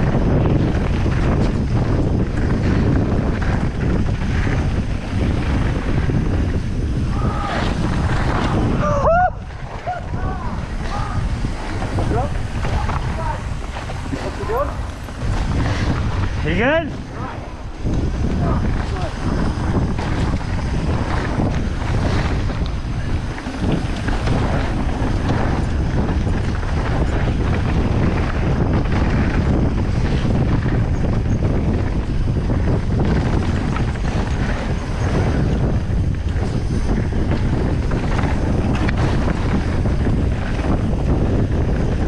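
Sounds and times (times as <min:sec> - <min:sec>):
bike knocking and rattling: 0:00.0 - 0:42.0
wind rushing over microphone: 0:00.0 - 0:42.0.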